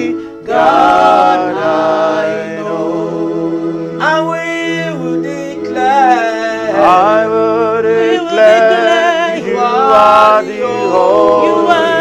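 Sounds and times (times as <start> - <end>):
gospel singing voices: 0.0 - 12.0
sustained keyboard chords: 0.0 - 12.0.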